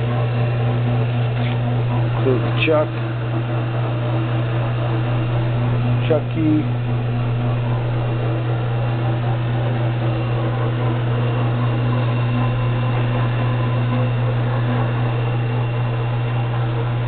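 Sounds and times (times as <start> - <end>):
drill press motor hum: 0.0 - 17.0.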